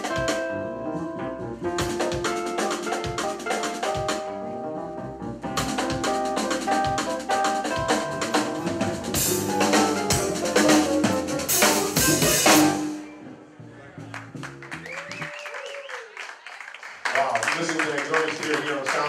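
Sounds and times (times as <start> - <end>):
jazz trio playing: 0.0 - 15.3.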